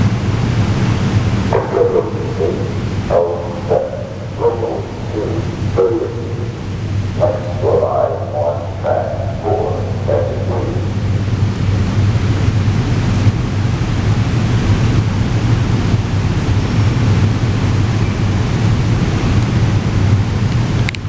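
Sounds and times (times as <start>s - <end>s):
train passing: 0.0s - 20.9s.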